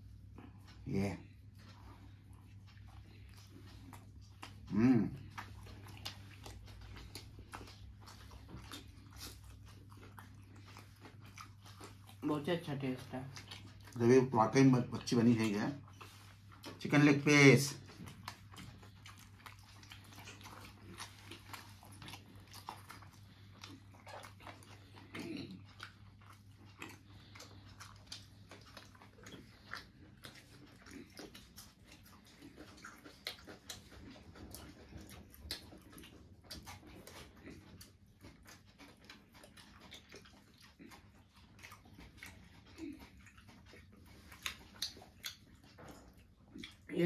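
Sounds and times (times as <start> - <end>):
low steady hum: 0.0 - 47.0
person chewing food: 0.0 - 47.0.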